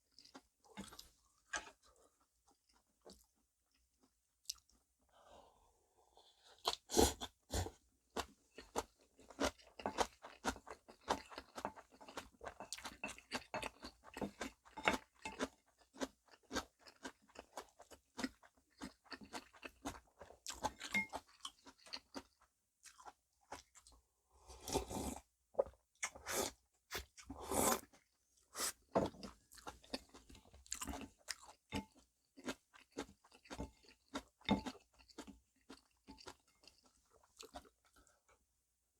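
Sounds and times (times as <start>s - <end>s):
close chewing of food: 0.0s - 4.8s, 6.2s - 38.5s.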